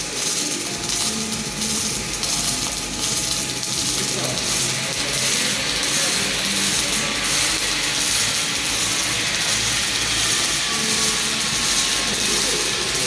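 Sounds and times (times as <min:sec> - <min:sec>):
welding arc hissing and crackling: 0:00.0 - 0:13.0.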